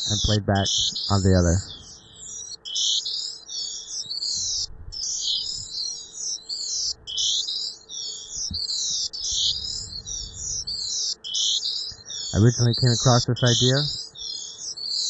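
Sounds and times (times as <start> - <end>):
chirping electronic warble: 0.0 - 15.0.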